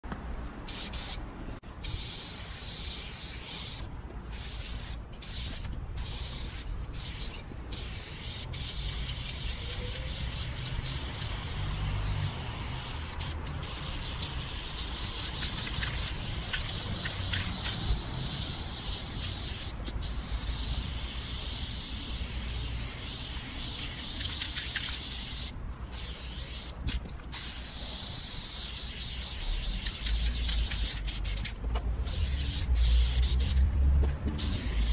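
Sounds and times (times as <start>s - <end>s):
spray paint can hissing: 0.7s - 1.2s, 1.8s - 33.6s, 34.4s - 34.9s.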